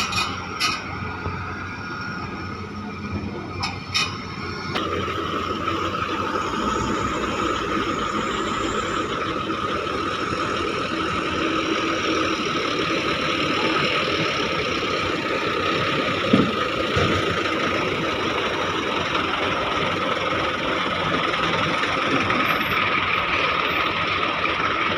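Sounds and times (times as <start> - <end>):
heavy diesel machinery running: 0.0 - 24.9.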